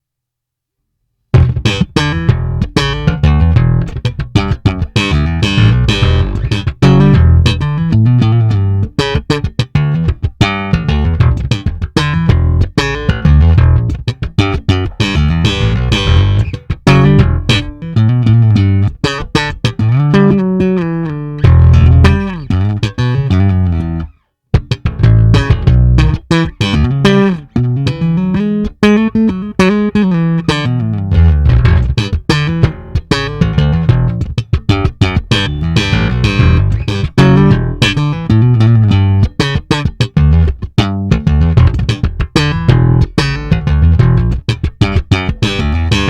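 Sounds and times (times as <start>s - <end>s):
plucked bass guitar notes: 1.3s - 46.0s.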